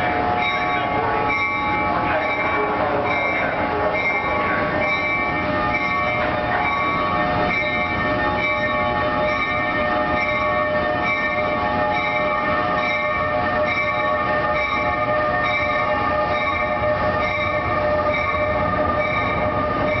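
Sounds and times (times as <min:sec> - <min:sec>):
locomotive bell ringing: 0:00.0 - 0:20.0
train rumble: 0:00.0 - 0:20.0.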